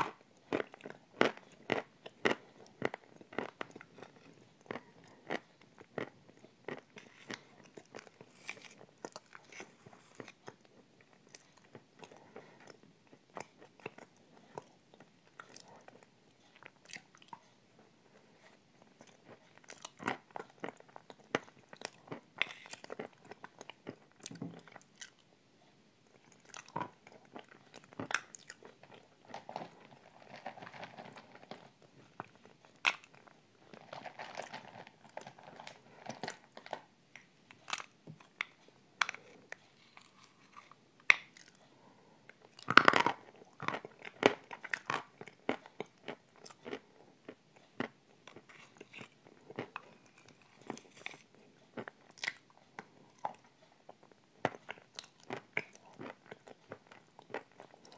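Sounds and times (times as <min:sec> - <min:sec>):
chewing and crunching: 0:00.0 - 0:25.4, 0:26.0 - 0:57.9.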